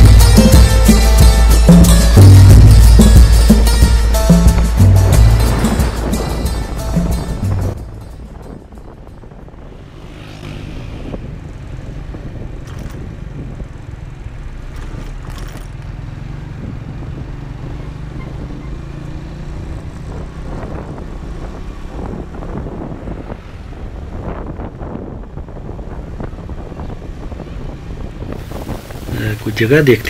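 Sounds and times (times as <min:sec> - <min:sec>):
motorcycle engine running: 0:00.0 - 0:29.4
road and wind noise: 0:00.0 - 0:30.0.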